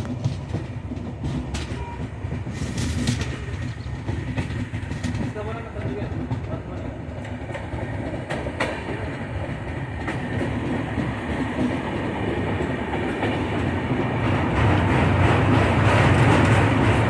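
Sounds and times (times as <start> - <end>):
faint rail clacks: 0.0 - 17.0
train rumbling along rails: 0.0 - 17.0.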